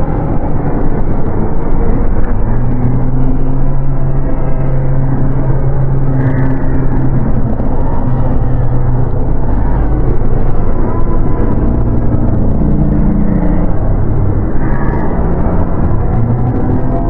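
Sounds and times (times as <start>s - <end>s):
dark ambient drone: 0.0s - 17.0s.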